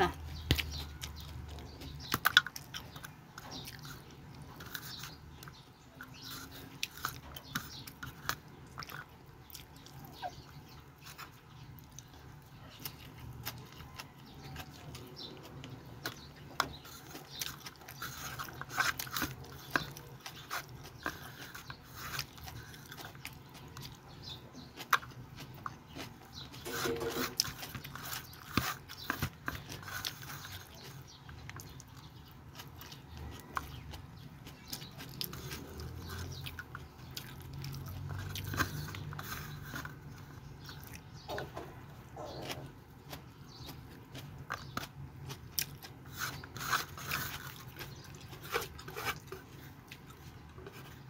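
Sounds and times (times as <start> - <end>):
person chewing: 0.0 - 51.0.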